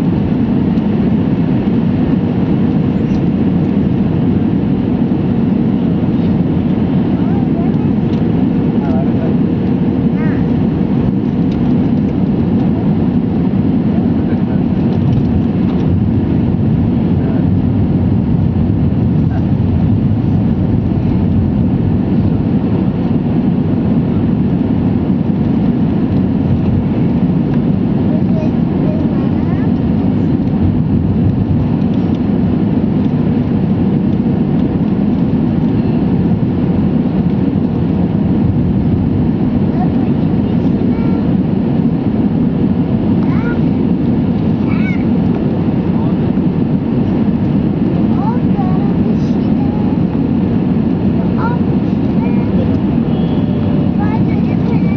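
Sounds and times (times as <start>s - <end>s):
airplane cabin engine roar: 0.0s - 54.9s.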